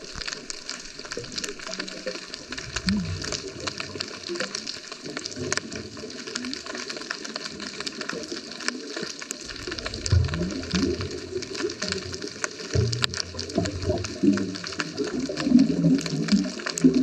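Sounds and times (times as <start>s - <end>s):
bubbling gurgles: 0.0s - 17.0s
underwater crackling clicks: 0.0s - 17.0s.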